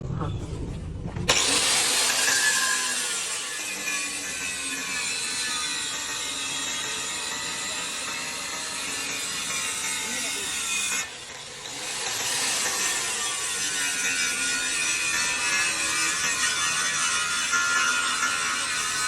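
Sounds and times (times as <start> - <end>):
rasping metalwork on steel: 1.3 - 19.0.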